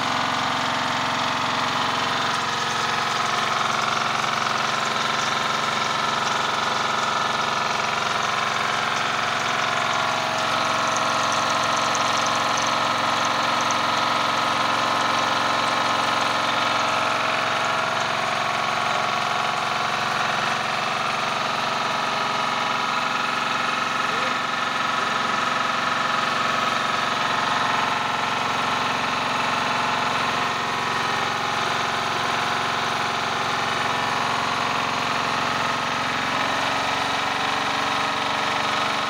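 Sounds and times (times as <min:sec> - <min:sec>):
pump hiss: 0:00.0 - 0:39.0
pump motor droning: 0:00.0 - 0:39.0.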